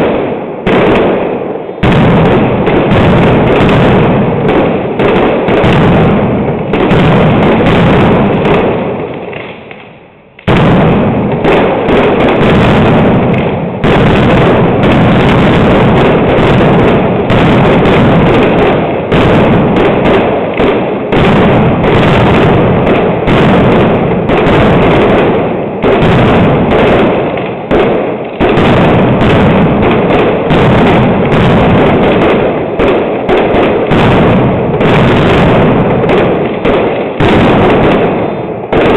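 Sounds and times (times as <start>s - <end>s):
firecracker barrage: 0.0s - 38.9s.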